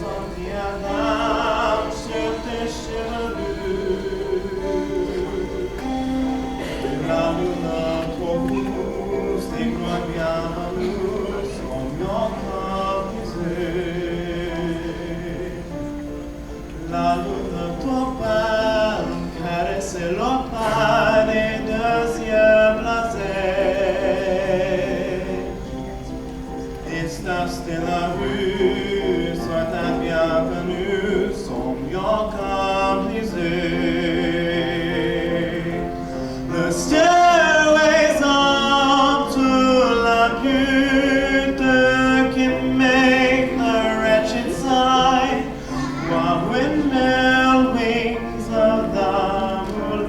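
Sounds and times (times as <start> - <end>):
vocal group singing in harmony: 0.0 - 50.0.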